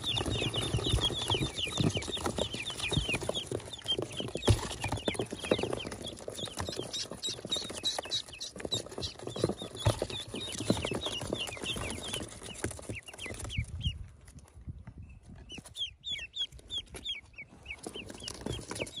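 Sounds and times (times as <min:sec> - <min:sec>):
ducklings peeping: 0:00.0 - 0:14.3, 0:15.0 - 0:19.0.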